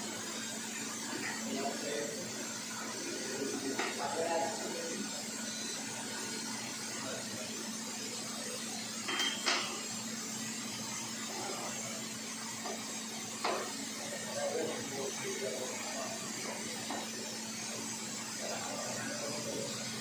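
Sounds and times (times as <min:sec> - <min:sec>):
machine humming and hissing: 0:00.0 - 0:20.0.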